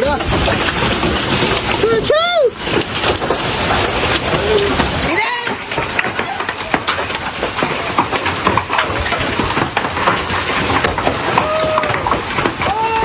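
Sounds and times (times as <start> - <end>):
hailstones pounding: 0.0 - 13.0
heavy rain: 0.0 - 13.0.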